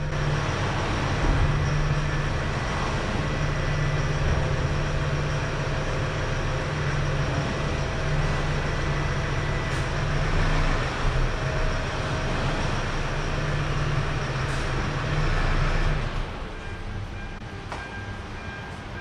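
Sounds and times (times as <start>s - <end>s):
van engine humming: 0.0s - 19.0s.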